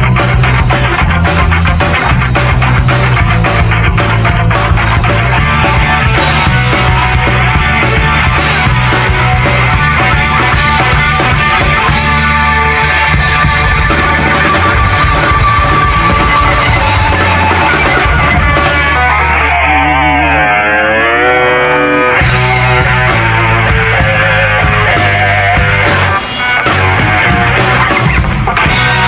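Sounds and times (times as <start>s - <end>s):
loud rock band music: 0.0s - 29.0s.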